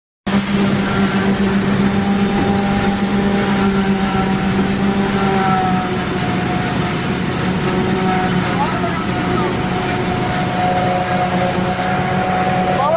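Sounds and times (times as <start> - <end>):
harvester engine hum: 0.3 - 12.9.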